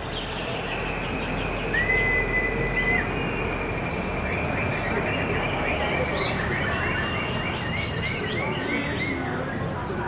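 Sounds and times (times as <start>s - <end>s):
long level bird whistle: 0.0s - 9.2s
songbirds chirping and trilling: 0.0s - 10.0s.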